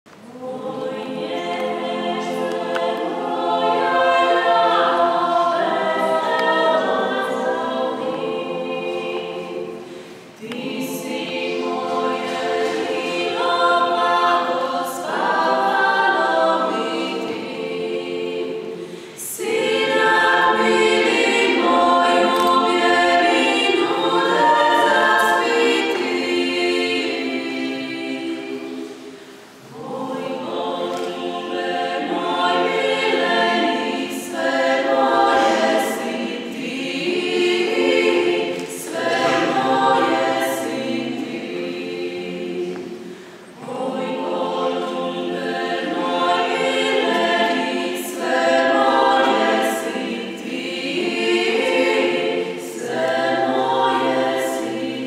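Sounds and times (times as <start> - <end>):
vocal group singing a cappella: 0.1 - 55.0.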